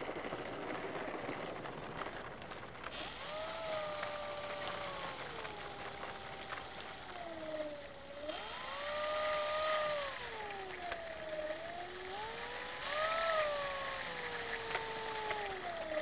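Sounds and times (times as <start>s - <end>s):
electric motor propeller whine: 0.0s - 16.0s.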